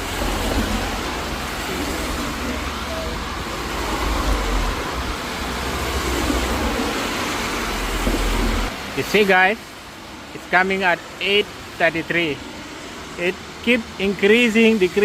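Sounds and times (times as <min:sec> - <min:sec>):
rain: 0:00.0 - 0:15.0
traffic on a wet street: 0:00.0 - 0:15.0.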